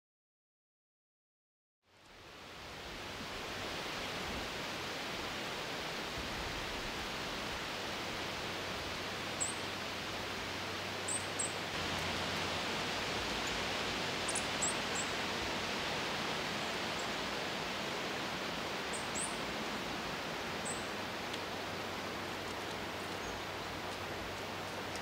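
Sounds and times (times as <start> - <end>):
outdoor background hiss: 1.9 - 25.0.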